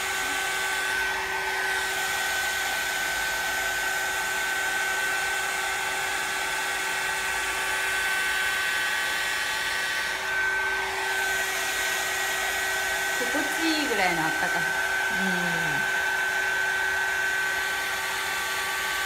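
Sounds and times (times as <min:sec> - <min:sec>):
hot-air curl dryer running: 0:00.0 - 0:19.0.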